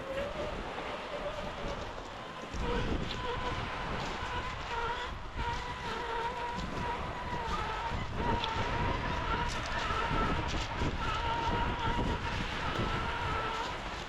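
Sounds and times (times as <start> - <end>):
electric motor whine: 0.0 - 14.0
waves: 0.0 - 14.0
wind rumble: 0.0 - 14.0.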